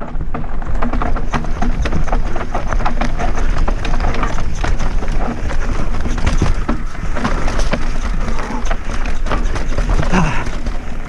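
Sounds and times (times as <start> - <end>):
mountain bike rattling: 0.0 - 11.0
wind rumble on camera: 0.0 - 11.0.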